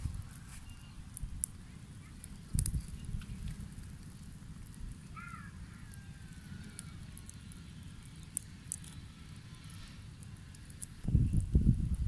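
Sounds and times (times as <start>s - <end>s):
embers crackling: 0.0s - 12.0s
low steady rumble: 0.0s - 12.0s.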